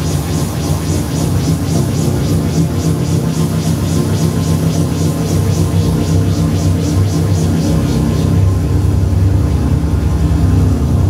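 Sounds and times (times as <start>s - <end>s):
low synthesizer drone: 0.0s - 11.0s
pulsing high hiss: 0.0s - 11.0s.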